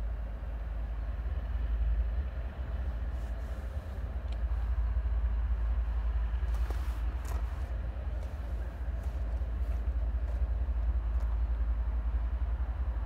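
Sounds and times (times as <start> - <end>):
distant freight train rumble: 0.0 - 13.0.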